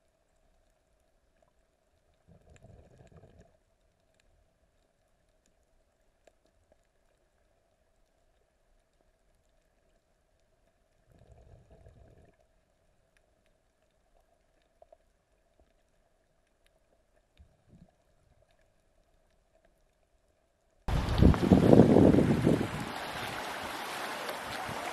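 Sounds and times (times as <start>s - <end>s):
faint clicks: 0.0s - 20.5s.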